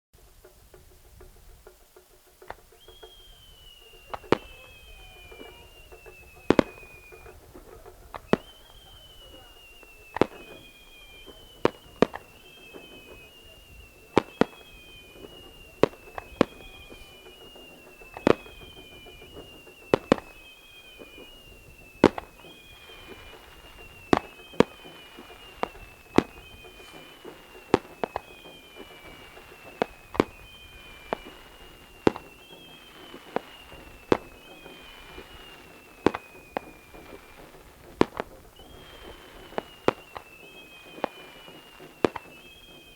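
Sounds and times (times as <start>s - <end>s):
firework bangs: 0.2s - 42.9s
high falling whistle: 2.4s - 42.9s.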